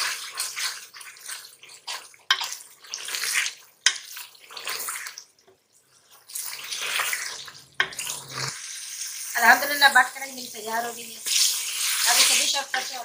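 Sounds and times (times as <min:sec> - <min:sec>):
meat sizzling in hot oil: 0:00.0 - 0:05.2, 0:06.2 - 0:13.0.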